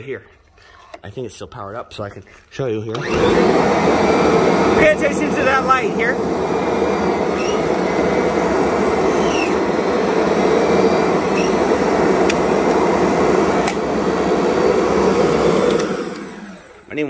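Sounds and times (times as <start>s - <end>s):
vacuum cleaner running: 2.9s - 17.0s.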